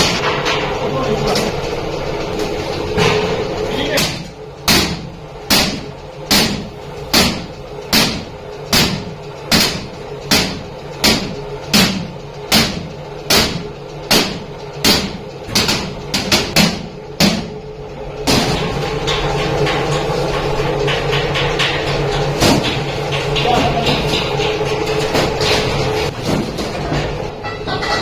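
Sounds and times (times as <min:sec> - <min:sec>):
hammer striking sheet iron: 0:00.0 - 0:00.8, 0:03.0 - 0:17.6, 0:18.2 - 0:28.0
steady machine noise: 0:00.0 - 0:28.0.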